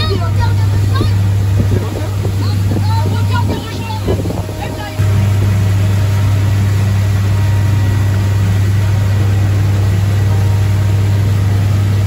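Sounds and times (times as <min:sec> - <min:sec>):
outboard motor drone: 0:00.0 - 0:12.0
rushing water hiss: 0:00.0 - 0:12.0.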